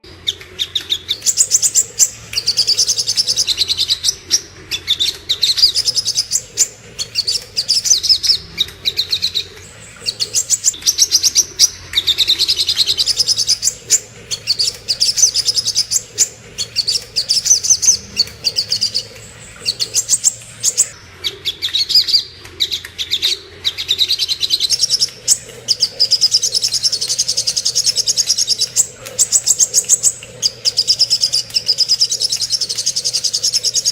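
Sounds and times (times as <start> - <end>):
bird trilling and chattering: 0.2 - 33.9.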